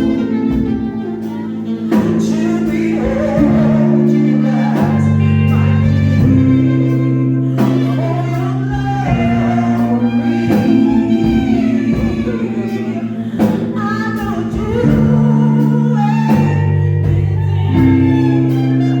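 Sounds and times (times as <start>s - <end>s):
person singing slow song: 0.0s - 19.0s
sustained chord accompaniment: 0.0s - 19.0s.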